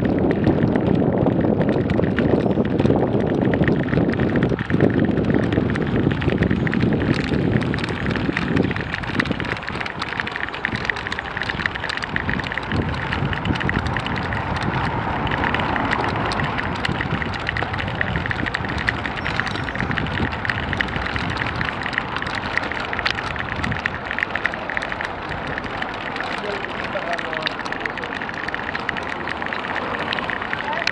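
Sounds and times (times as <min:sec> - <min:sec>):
motorcycle engine rumble: 0:00.0 - 0:30.9
tyres crackling on cobblestones: 0:00.0 - 0:30.9
wind noise on microphone: 0:00.0 - 0:30.9.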